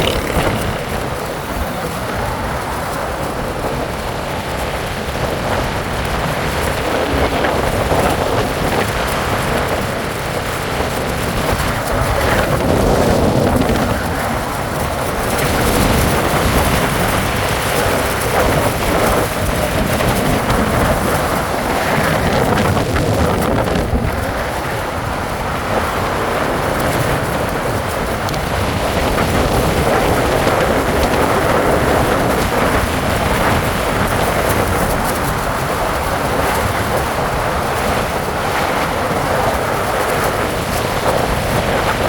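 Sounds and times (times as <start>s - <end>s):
road and vehicle noise: 0.0s - 42.0s
wind rushing over microphone: 0.0s - 42.0s.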